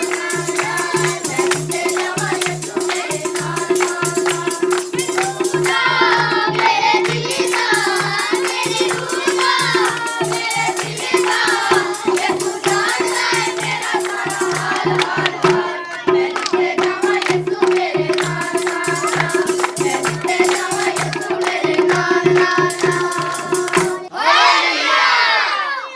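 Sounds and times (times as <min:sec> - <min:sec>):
hand clapping: 0:00.0 - 0:24.0
ringing hand drum: 0:00.0 - 0:24.0
women and children singing: 0:00.0 - 0:25.9.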